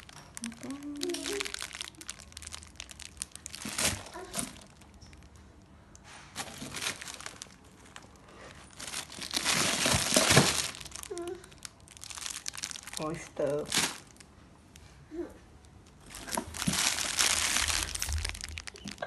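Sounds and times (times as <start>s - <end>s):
plastic bags crinkling: 0.0s - 14.3s, 15.6s - 19.0s.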